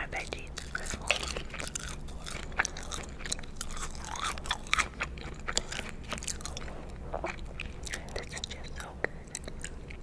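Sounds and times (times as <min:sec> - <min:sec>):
mouth chewing fries: 0:00.0 - 0:10.0.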